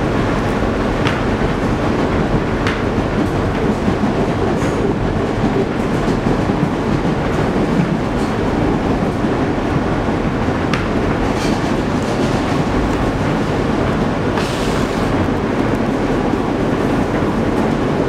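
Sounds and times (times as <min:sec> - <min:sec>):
wheels rumbling on rail: 0:00.0 - 0:18.0.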